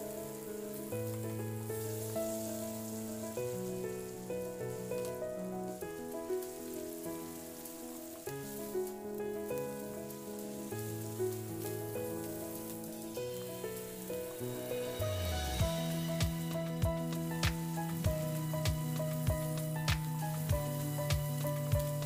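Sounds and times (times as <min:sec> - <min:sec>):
food sizzling in oil: 0:00.0 - 0:22.0
instrumental music: 0:00.0 - 0:22.0.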